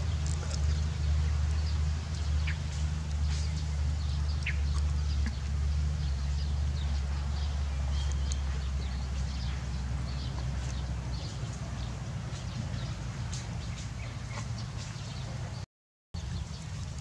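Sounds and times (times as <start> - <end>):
low motor-like hum: 0.0 - 15.6.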